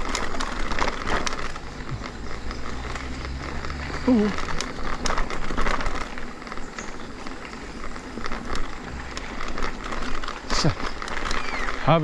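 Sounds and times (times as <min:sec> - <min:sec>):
bike clicks and rattles: 0:00.0 - 0:12.0
mountain bike riding rush: 0:00.0 - 0:12.0.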